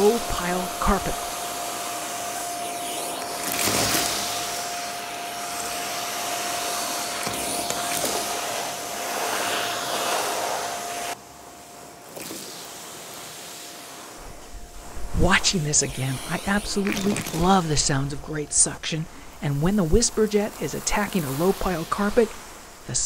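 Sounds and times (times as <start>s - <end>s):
vacuum cleaner whining: 0.0s - 23.0s.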